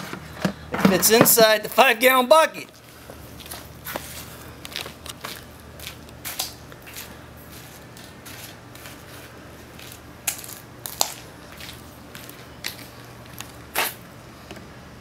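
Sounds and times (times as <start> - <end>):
footsteps on brick pavers: 0.0 - 1.9, 2.7 - 14.0.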